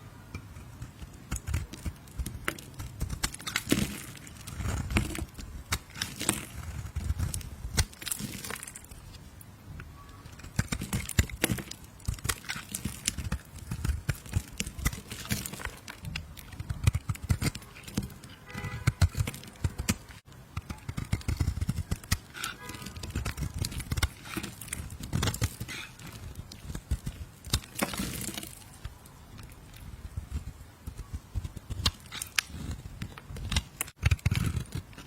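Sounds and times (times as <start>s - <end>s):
knife cutting soap: 0.3s - 9.2s, 10.1s - 35.0s.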